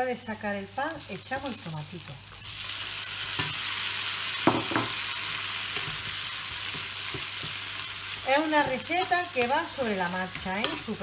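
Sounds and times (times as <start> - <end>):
tomatoes sizzling in a frying pan: 0.0 - 11.0.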